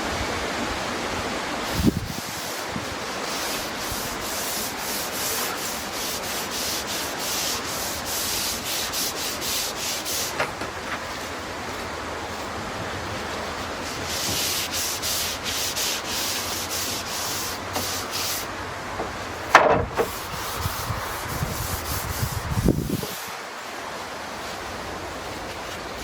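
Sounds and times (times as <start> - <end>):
paintbrush scrubbing wood planks: 1.5 - 23.4.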